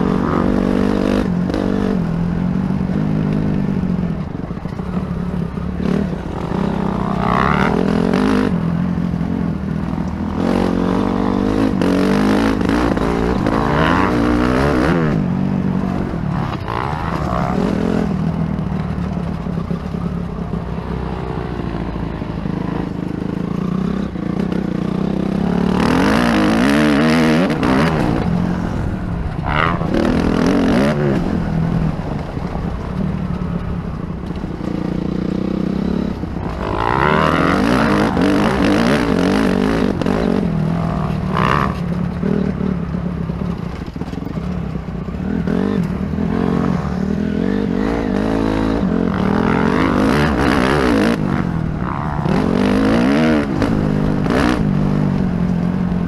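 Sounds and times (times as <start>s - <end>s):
dirt bike engine revving: 0.0s - 33.0s, 33.9s - 56.0s.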